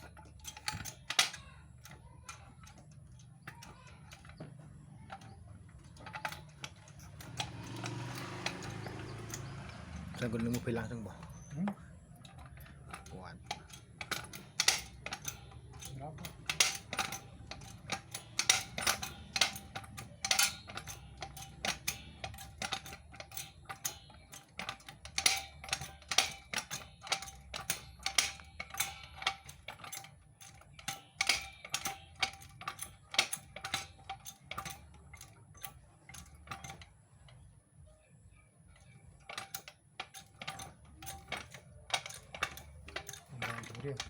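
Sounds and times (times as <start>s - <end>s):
car jack clicking: 0.0s - 37.5s, 38.6s - 44.0s.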